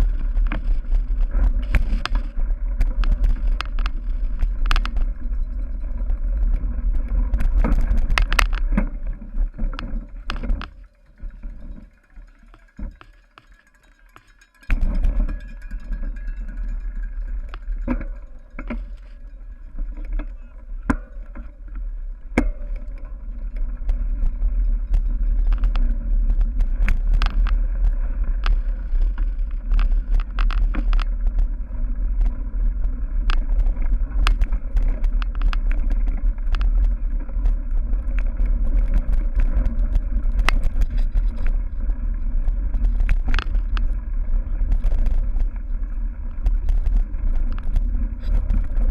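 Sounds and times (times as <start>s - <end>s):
bike clicking and rattling: 0.0s - 48.9s
wind rumbling on microphone: 0.0s - 48.9s.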